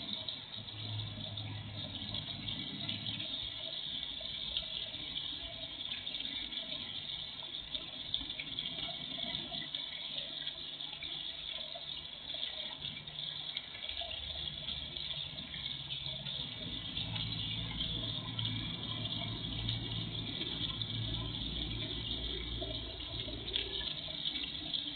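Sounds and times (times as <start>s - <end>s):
faint low hum: 0.0s - 24.9s
fountain splashing into pond: 0.0s - 24.9s.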